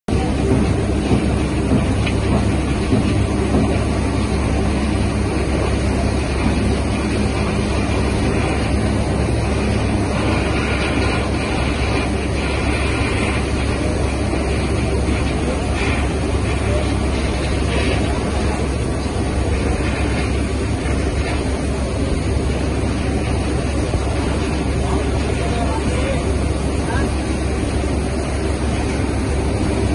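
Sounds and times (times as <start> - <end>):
ship engine low rumble: 0.0 - 29.9
wind noise on microphone: 0.1 - 29.9.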